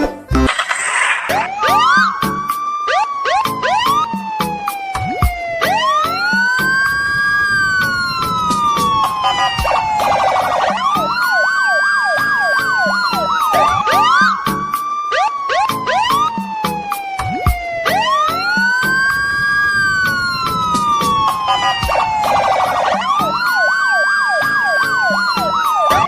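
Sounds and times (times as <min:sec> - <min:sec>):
siren-like wailing tones: 0:00.5 - 0:26.0.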